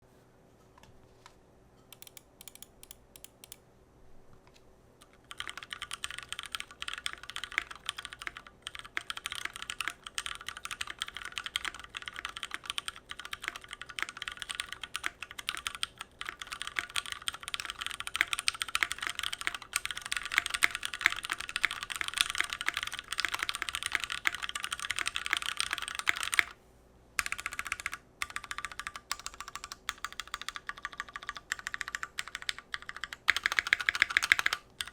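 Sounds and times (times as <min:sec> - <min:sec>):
typing on mechanical keyboard: 0:02.0 - 0:03.6, 0:05.0 - 0:26.6, 0:27.2 - 0:34.9.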